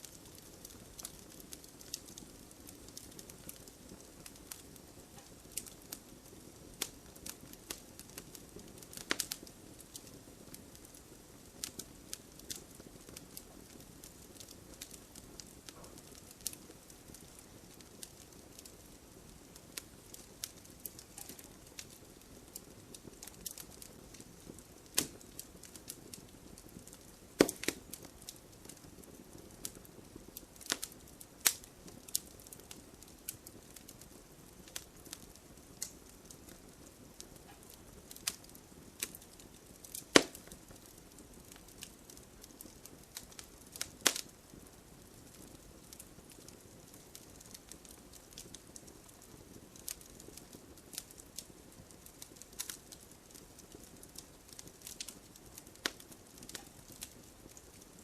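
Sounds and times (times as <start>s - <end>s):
sharp fire pops: 0.0s - 57.9s
burning logs crackling: 0.0s - 58.0s
low fire hiss: 0.0s - 58.0s.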